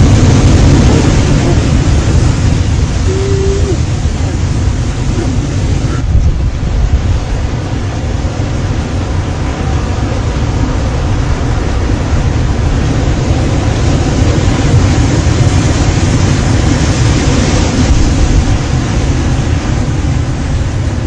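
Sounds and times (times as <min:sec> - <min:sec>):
ocean surf crashing: 0:00.0 - 0:21.0
wind on microphone: 0:00.0 - 0:21.0.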